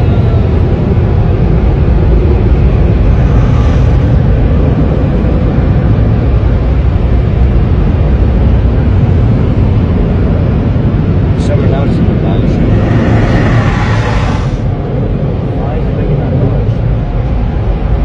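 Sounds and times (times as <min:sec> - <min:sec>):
car wash air blowers: 0:00.0 - 0:17.7.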